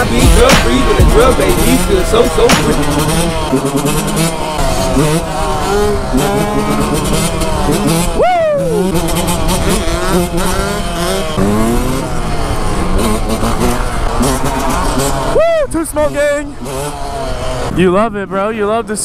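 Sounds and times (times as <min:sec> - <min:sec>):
dirt bike engine revving: 0:00.0 - 0:19.0
other motorcycle engines: 0:00.0 - 0:19.0.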